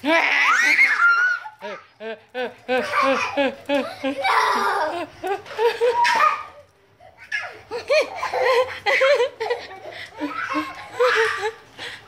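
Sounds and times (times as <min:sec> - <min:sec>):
young children laughing: 0:00.0 - 0:12.0.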